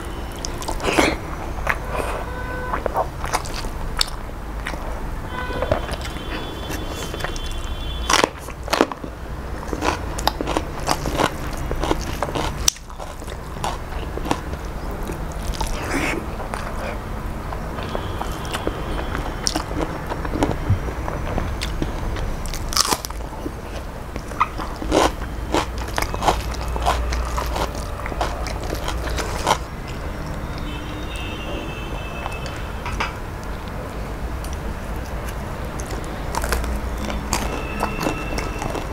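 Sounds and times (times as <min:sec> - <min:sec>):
chewing with crunches and smacks: 0:00.0 - 0:31.4, 0:32.2 - 0:38.9.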